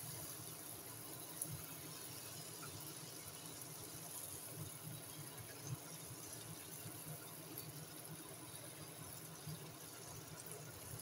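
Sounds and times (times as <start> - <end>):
batter balls deep-frying in oil: 0.0 - 11.0.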